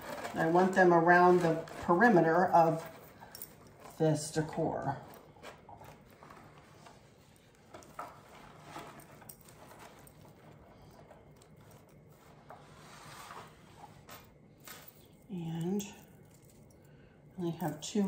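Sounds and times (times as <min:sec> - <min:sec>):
rustling of artificial leaves: 0:00.0 - 0:16.7.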